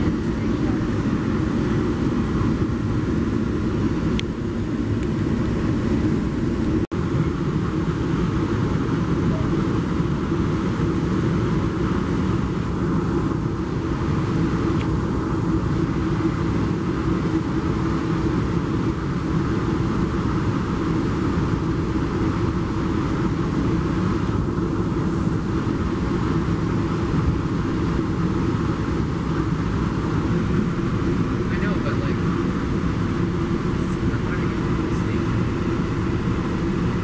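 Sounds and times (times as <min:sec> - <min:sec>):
train rumble inside coach: 0:00.0 - 0:37.0.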